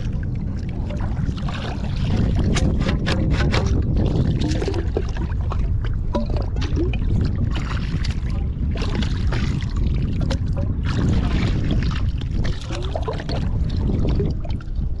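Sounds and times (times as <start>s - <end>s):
water splashing and sloshing: 0.0s - 15.0s
wind buffeting microphone: 0.0s - 15.0s.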